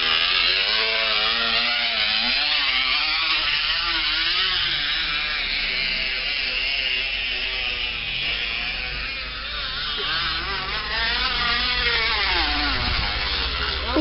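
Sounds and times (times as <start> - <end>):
spinning wheel buzzing rattle: 0.0 - 14.0.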